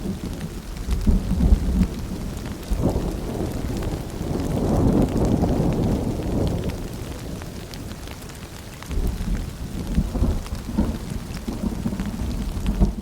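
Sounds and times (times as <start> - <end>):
low rolling thunder: 0.0 - 8.2, 8.9 - 13.0
rain falling and dripping: 0.0 - 13.0.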